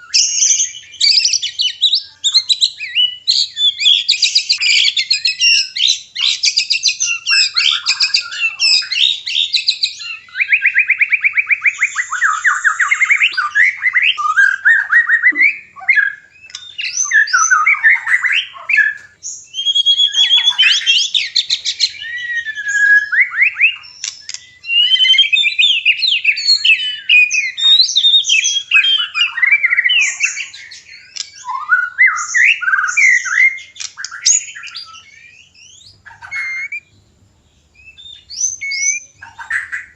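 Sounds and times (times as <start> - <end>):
bird song with whistles and trills: 0.0 - 39.9.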